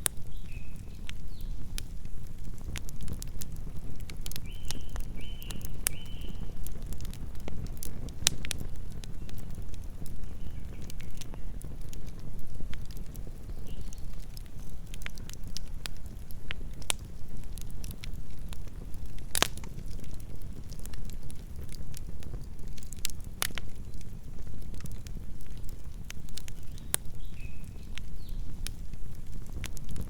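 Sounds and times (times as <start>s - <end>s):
campfire crackling: 0.0s - 30.0s
fire popping and snapping: 0.0s - 30.0s.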